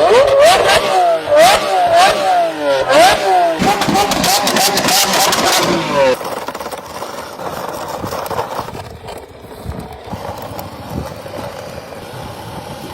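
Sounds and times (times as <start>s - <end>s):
toy car engine idling: 1.3s - 12.9s.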